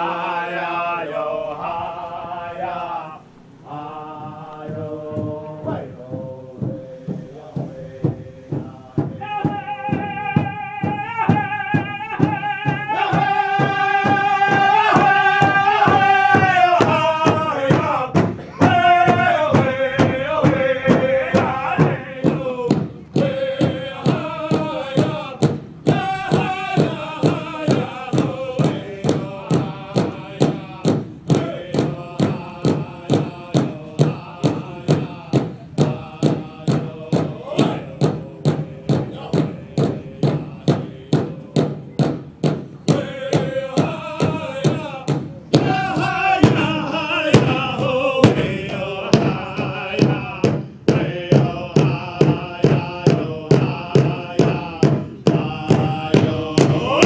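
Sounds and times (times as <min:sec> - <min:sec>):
men singing a high chant: 0:00.0 - 0:57.0
steady drumbeat on large drum: 0:03.7 - 0:57.0.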